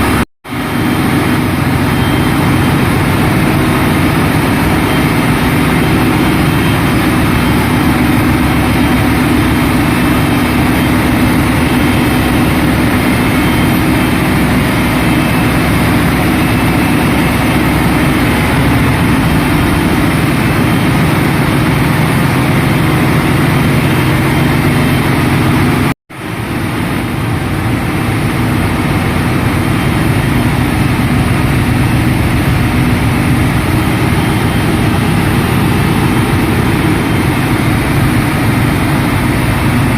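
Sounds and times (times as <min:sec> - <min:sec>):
engine room machinery noise: 0:00.0 - 0:39.9.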